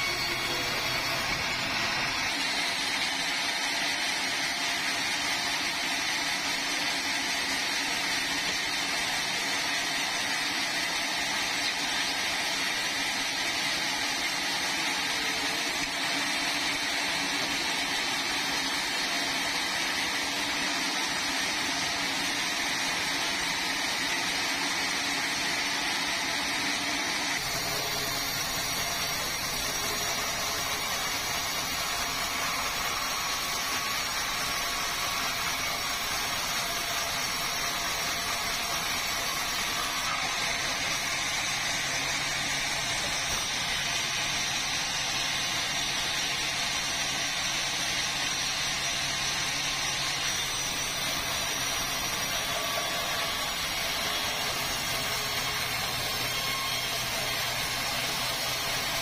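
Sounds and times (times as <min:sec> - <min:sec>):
band sawmill running: 0:00.0 - 0:59.0.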